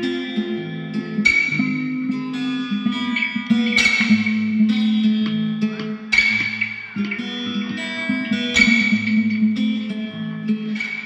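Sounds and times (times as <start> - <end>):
sustained ringing chords: 0.4 - 11.0.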